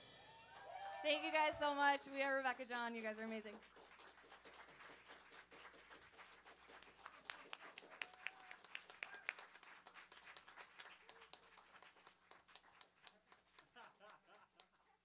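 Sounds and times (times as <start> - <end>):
people clapping faintly: 0.4 - 15.0.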